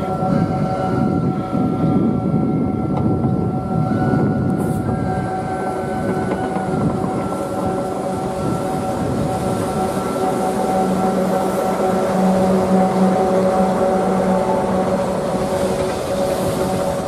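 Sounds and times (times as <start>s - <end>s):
electric locomotive whine: 0.0s - 17.0s
wheels rumbling on rails: 0.0s - 17.0s.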